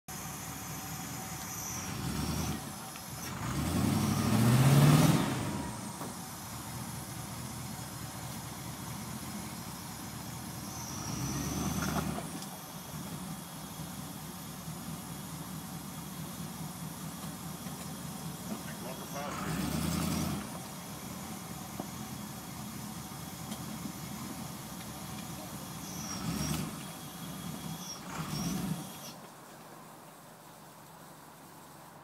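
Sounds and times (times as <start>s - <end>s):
vehicle engine revving: 0.2s - 29.2s.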